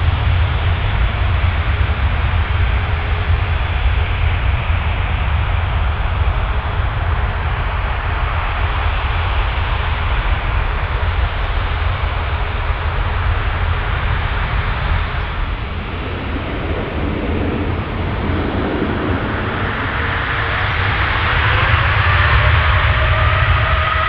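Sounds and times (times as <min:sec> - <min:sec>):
jet engines rumbling with hiss: 0:00.0 - 0:24.0.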